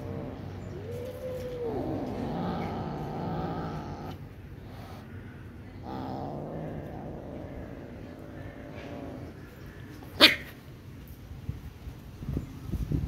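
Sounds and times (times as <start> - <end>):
cat growling: 0.0 - 10.6.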